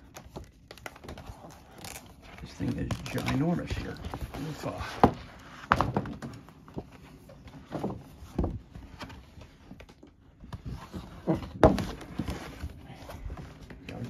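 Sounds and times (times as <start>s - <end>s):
paper mat rustling and scraping: 0.0s - 14.0s.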